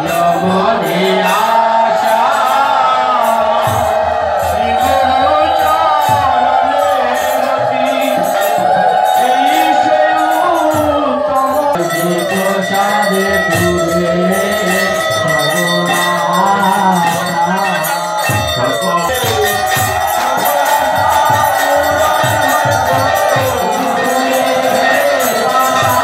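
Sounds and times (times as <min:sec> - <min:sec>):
group devotional singing: 0:00.0 - 0:26.0
metallic jingling percussion: 0:00.0 - 0:26.0.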